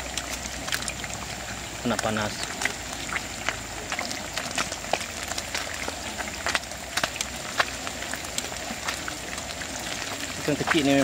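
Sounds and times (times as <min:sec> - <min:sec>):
fish deep-frying in hot oil: 0:00.0 - 0:11.0.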